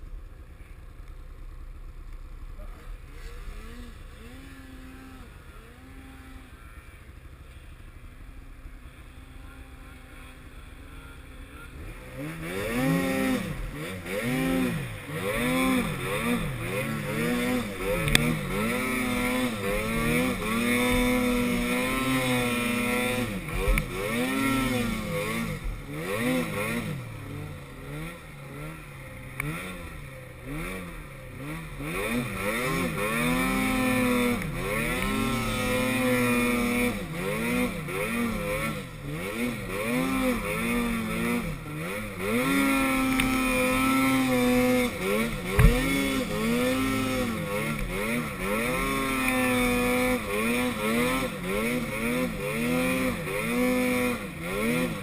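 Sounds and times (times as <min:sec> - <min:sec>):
snowmobile engine revving: 0:01.8 - 0:55.0.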